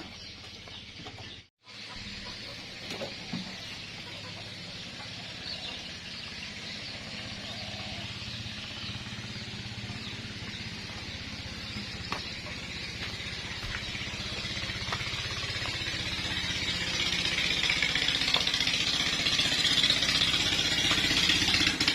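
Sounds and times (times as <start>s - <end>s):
boat engine running: 0.2s - 21.9s.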